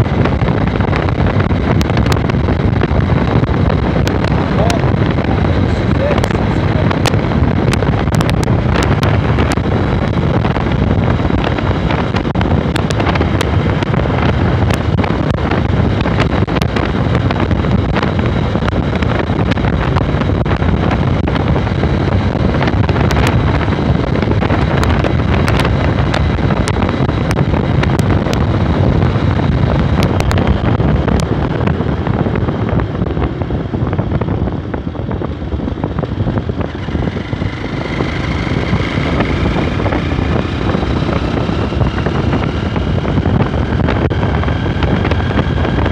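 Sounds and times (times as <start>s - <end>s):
motorcycle engine running: 0.0s - 45.9s
wind rush on microphone: 0.0s - 45.9s.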